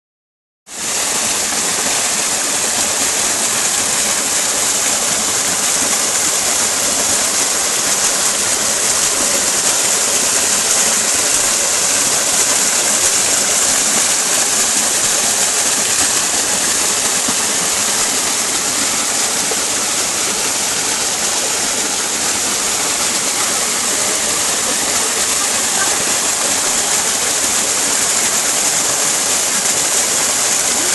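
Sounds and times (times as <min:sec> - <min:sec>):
waterfall rushing over boulders: 0:00.7 - 0:30.9.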